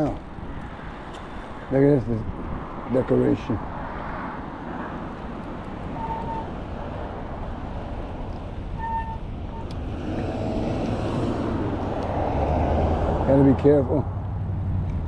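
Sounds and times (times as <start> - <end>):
road noise rush: 0.0 - 15.0
motor vehicle approaching: 2.9 - 15.0.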